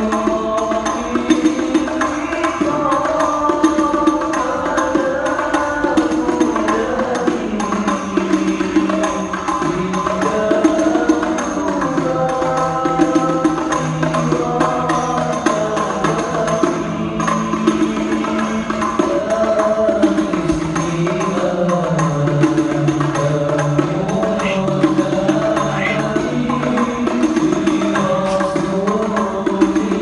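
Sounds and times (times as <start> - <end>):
frame drums beating: 0.0 - 30.0
men singing into microphones: 0.0 - 30.0.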